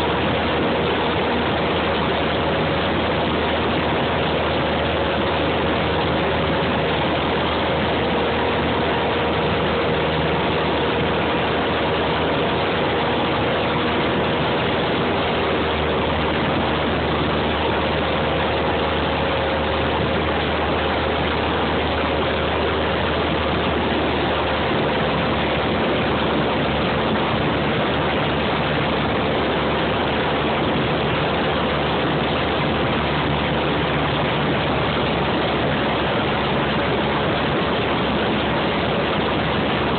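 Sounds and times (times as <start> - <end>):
aircraft engine and propeller drone: 0.0 - 39.9
rush of air noise: 0.0 - 39.9.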